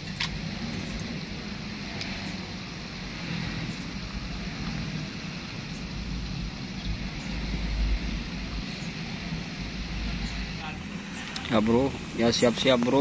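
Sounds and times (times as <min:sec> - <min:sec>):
low hum: 0:00.0 - 0:13.0
rushing background noise: 0:00.0 - 0:13.0.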